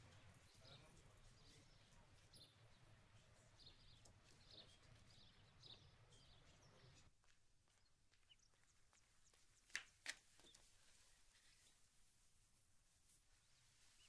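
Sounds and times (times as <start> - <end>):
small birds chirping: 0.0 - 12.0, 13.1 - 14.0.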